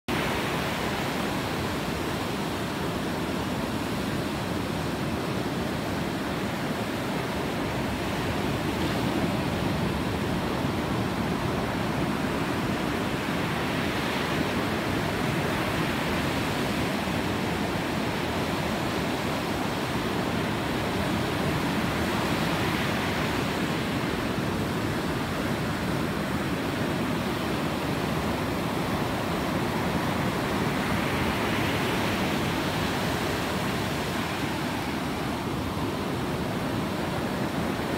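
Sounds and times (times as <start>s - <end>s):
ocean waves breaking: 0.1s - 37.9s.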